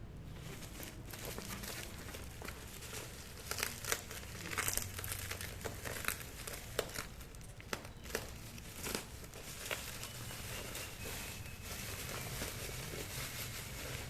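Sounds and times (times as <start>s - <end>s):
packaging crinkling: 0.3s - 14.0s.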